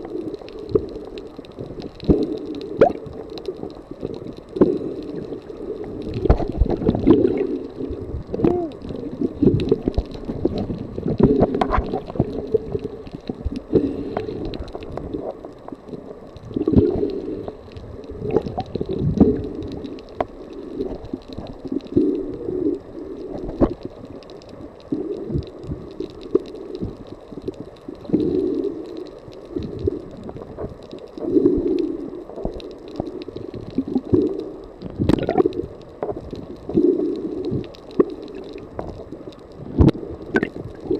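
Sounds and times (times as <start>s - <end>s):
muffled underwater gurgling: 0.0s - 40.9s.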